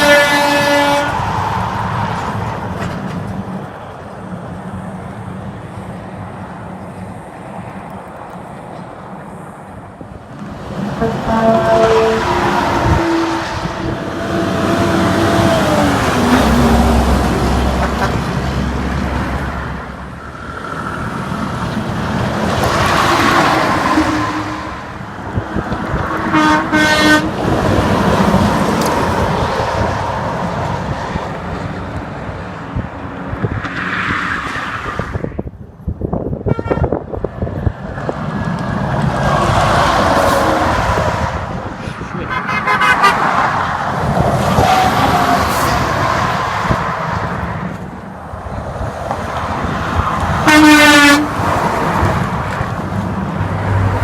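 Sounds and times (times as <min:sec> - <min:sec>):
trucks and cars passing: 0:00.0 - 0:54.0.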